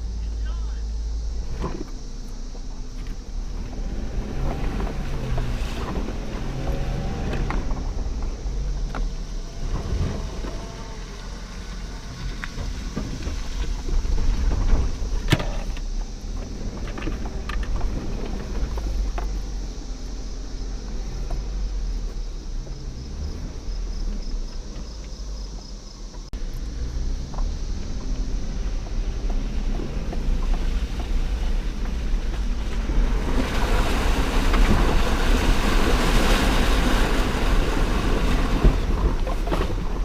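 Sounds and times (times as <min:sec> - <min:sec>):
off-road engine rumbling under load: 0:00.0 - 0:40.0.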